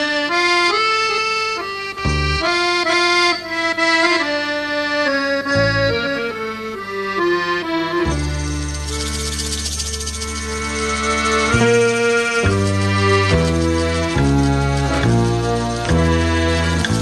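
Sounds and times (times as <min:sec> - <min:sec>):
instrumental melody in held notes: 0:00.0 - 0:17.0
low bass notes: 0:00.0 - 0:17.0.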